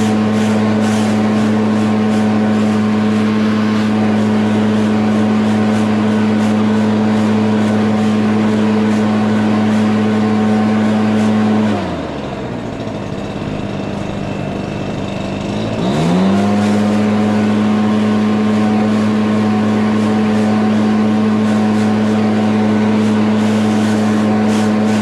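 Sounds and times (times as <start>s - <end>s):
lawnmower engine running: 0.0s - 25.0s.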